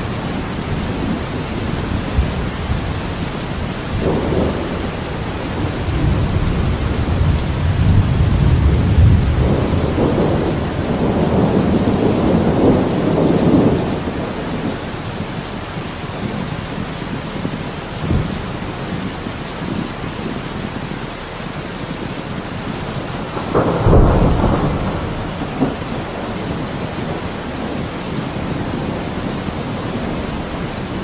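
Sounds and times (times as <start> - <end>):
heavy rain: 0.0 - 31.0
rolling thunder rumble: 0.0 - 31.0.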